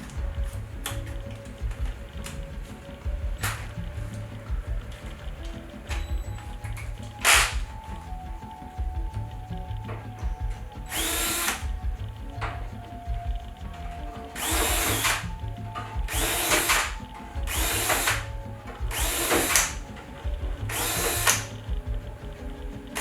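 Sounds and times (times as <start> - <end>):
power drill spinning: 0.0 - 23.0.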